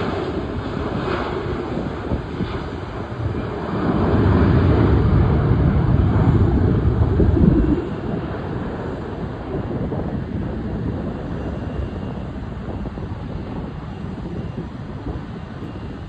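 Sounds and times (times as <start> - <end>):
jet engine rumble: 0.0 - 16.0
wind buffeting microphone: 0.0 - 16.0.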